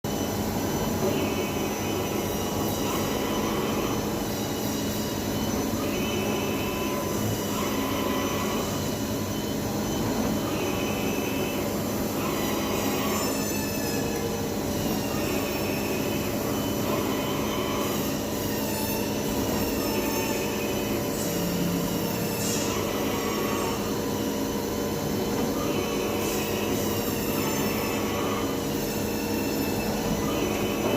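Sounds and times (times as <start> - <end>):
high whining motor tones: 0.1 - 30.9
milling machine hum: 0.1 - 30.9.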